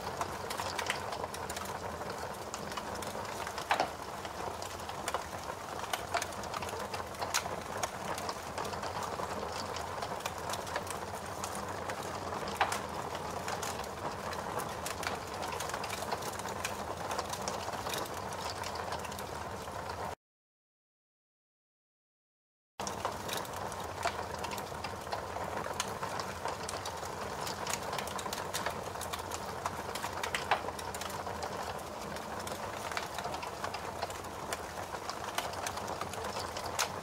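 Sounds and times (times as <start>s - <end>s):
fire burning with crackles: 0.0s - 20.2s, 22.8s - 37.0s.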